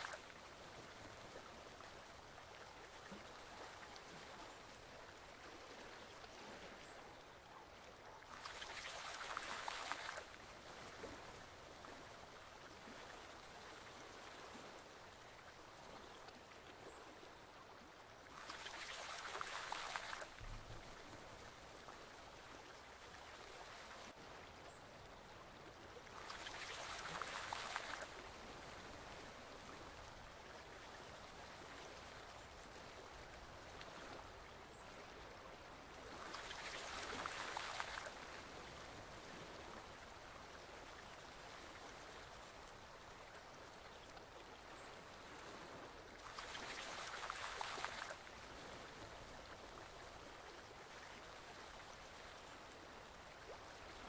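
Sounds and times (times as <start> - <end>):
forest stream flowing: 0.0 - 54.0.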